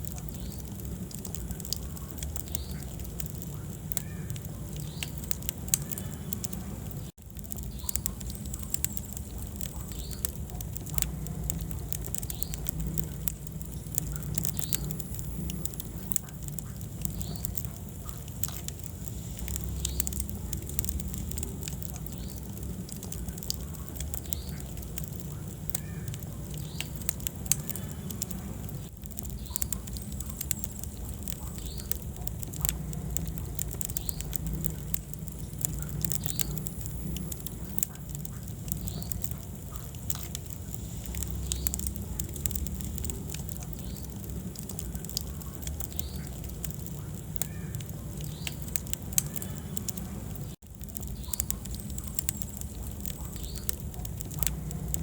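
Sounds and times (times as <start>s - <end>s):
fire popping and snapping: 0.0s - 55.0s
wood fire crackling: 0.0s - 55.0s.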